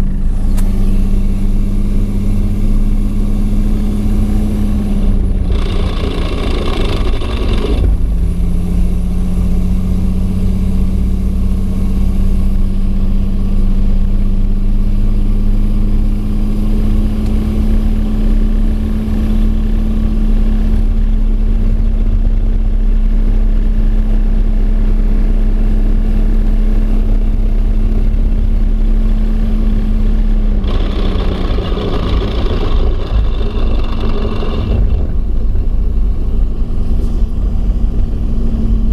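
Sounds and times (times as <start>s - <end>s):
truck drivetrain drone: 0.0s - 38.9s.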